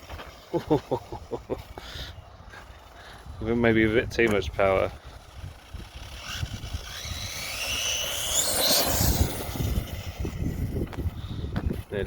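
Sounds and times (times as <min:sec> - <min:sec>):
rc car motor whine: 0:00.0 - 0:00.7, 0:01.6 - 0:12.0.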